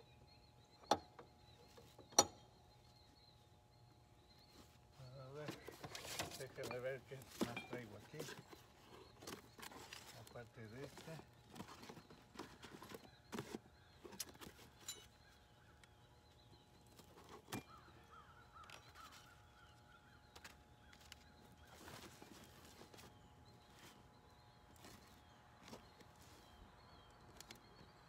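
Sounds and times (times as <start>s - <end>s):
distant birds calling: 0.0s - 28.0s.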